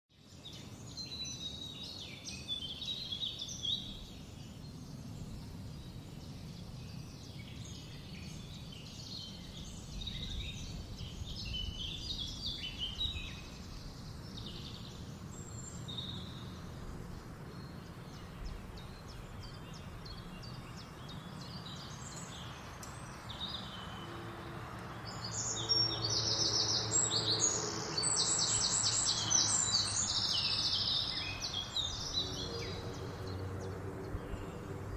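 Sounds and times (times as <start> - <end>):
wild birds singing: 0.1 - 34.9.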